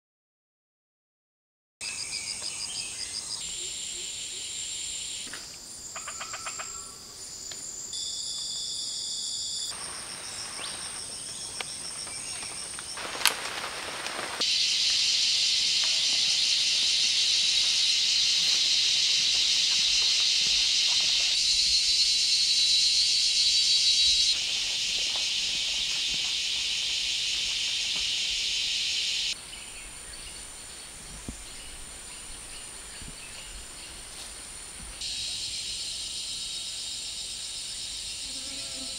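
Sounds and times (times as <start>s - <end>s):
high-pitched insect chorus: 1.8s - 38.9s.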